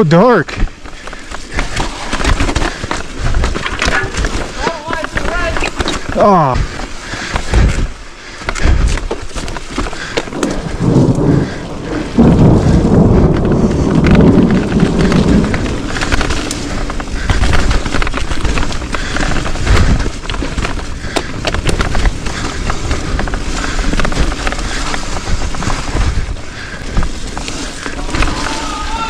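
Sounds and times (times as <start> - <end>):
wind rumbling on microphone: 0.6 - 29.0.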